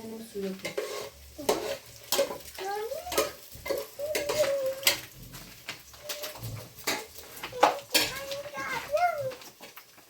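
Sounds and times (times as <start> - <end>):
metal utensils clinking on pots: 0.0 - 10.0.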